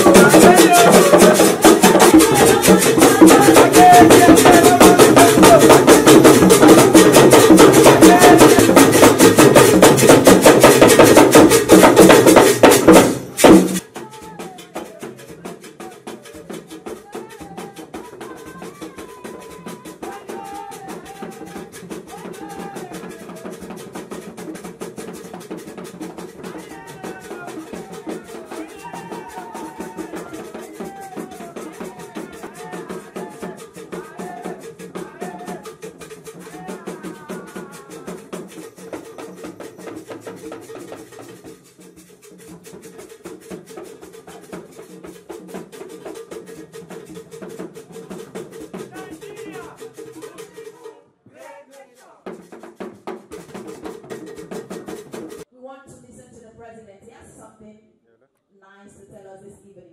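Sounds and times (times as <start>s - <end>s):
drum ensemble playing: 0.0s - 55.4s.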